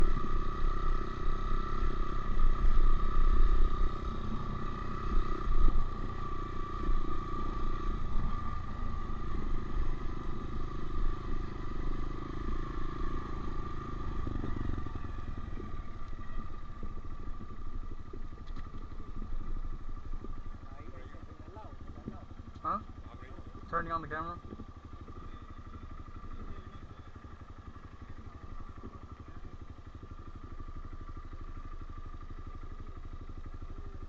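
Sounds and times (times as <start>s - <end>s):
dirt bike engine idling: 0.0s - 34.0s.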